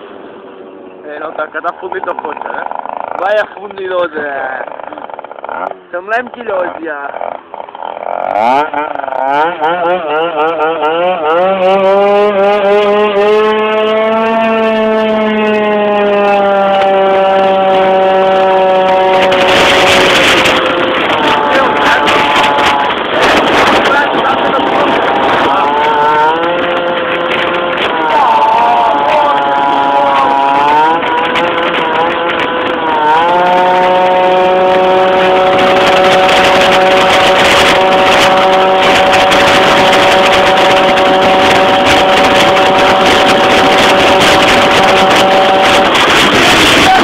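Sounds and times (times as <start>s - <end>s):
rushing noise: 0.0s - 47.0s
two-stroke scooter engine revving: 0.0s - 47.0s.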